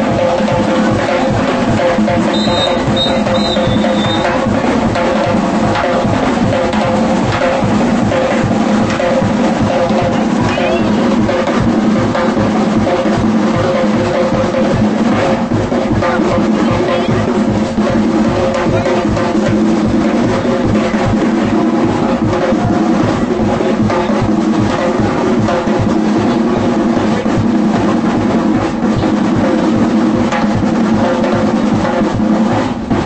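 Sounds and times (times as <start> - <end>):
snare and bass drums: 0.0 - 33.0.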